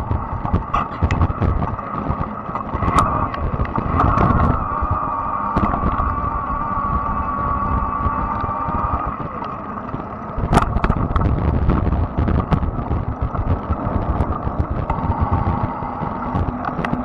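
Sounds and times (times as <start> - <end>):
electric motor whine: 0.0 - 17.0
low rumble: 0.0 - 17.0
sharp clicks and rattles: 0.0 - 17.0.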